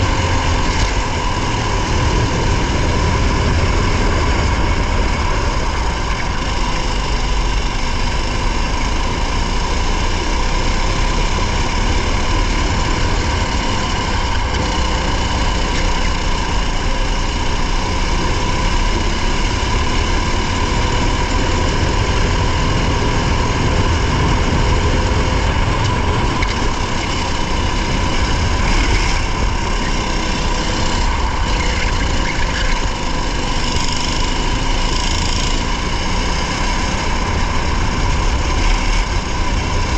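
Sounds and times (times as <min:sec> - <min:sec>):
racing car engine rumble: 0:00.0 - 0:39.9.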